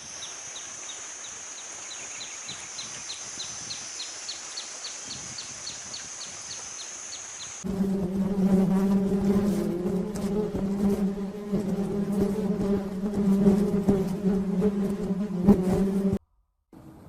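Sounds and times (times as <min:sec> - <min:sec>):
insect buzzing: 0:00.0 - 0:16.2.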